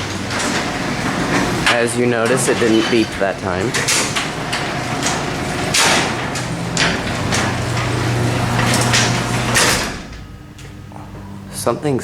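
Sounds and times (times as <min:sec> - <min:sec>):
door scraping in tracks: 0:00.0 - 0:10.4
garage door motor hum: 0:00.0 - 0:12.0.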